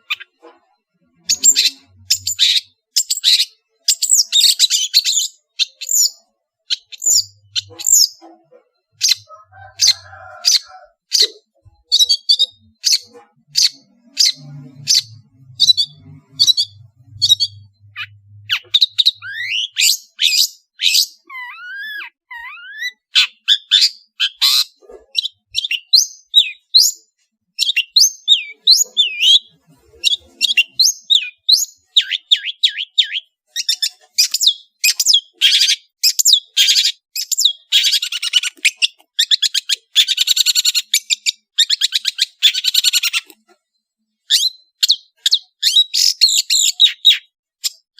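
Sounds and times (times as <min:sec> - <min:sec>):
bird singing varied song: 0:00.0 - 0:47.9.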